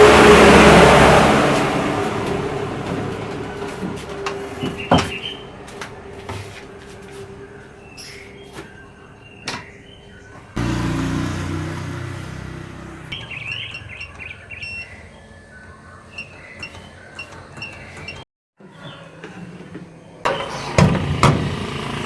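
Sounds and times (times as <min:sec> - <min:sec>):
birds chirping: 0:00.3 - 0:20.7.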